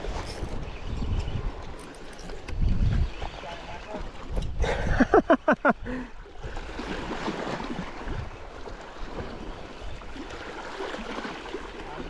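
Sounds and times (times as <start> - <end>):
waves lapping on rocky shore: 0.0 - 12.0
wind: 0.0 - 12.0.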